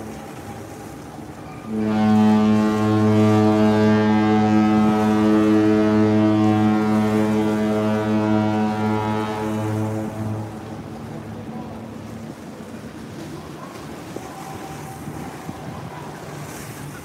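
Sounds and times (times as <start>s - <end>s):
ship horn low blast: 0.0s - 16.8s.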